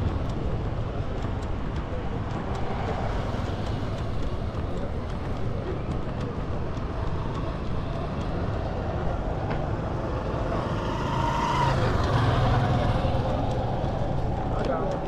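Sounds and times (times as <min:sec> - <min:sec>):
motor vehicle traffic: 0:00.0 - 0:15.0
vehicle engine: 0:00.0 - 0:15.0.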